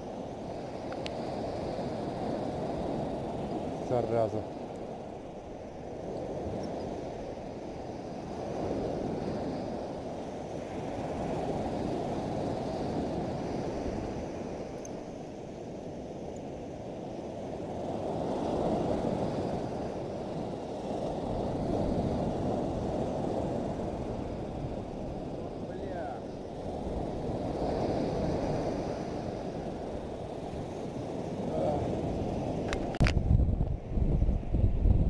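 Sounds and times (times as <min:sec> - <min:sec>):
sea surf breaking on beach: 0:00.0 - 0:34.0.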